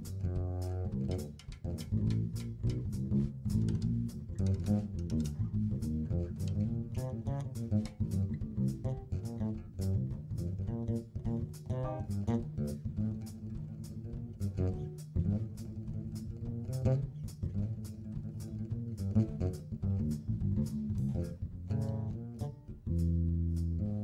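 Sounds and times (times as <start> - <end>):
jazz trio playing: 0.0 - 24.0
upright bass: 0.0 - 24.0.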